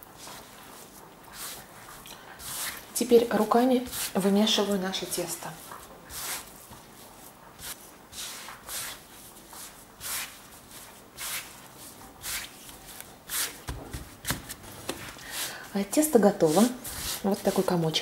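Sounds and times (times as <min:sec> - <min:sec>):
hands kneading dough: 0:00.0 - 0:18.0.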